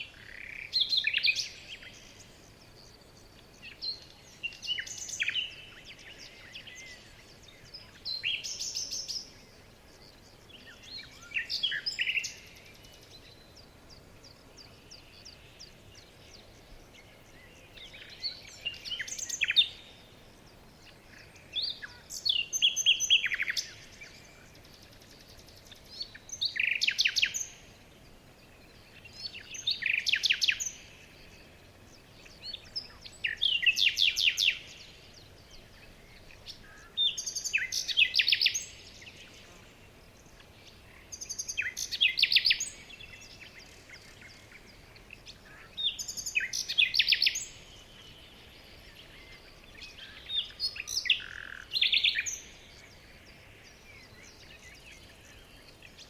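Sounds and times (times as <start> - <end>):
songbird trilling: 0.0 - 20.0, 20.9 - 27.7, 28.7 - 39.2, 40.3 - 56.0
faint steady hiss: 0.0 - 56.0.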